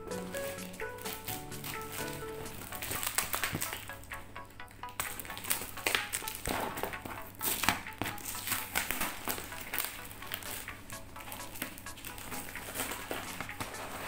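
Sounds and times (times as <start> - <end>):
plastic wrapping crinkling: 0.0 - 4.2, 4.8 - 14.0.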